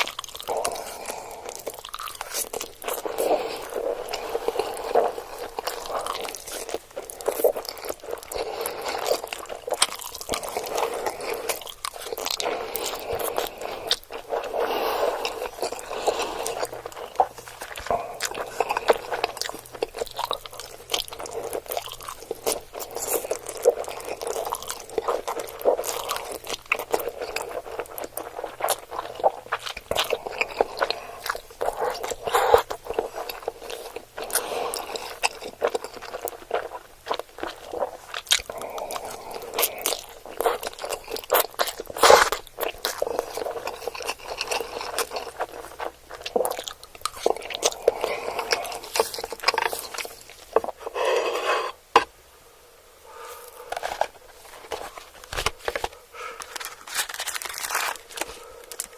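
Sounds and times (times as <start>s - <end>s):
crunching and chewing: 0.0s - 52.1s, 53.2s - 58.9s.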